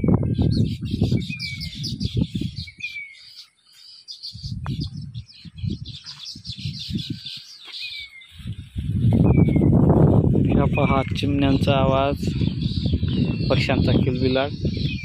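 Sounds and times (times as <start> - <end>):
low rumble on microphone: 0.0 - 2.9, 4.4 - 7.5, 8.2 - 15.0
small birds chirping: 0.0 - 15.0.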